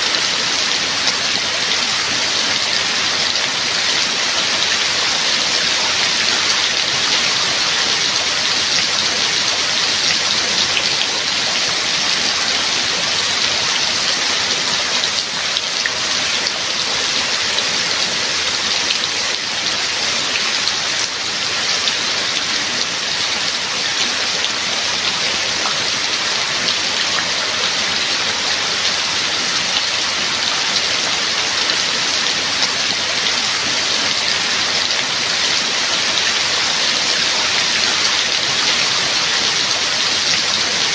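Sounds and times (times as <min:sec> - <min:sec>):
rain falling: 0:00.0 - 0:40.9
raindrops pattering on a surface: 0:00.0 - 0:40.9.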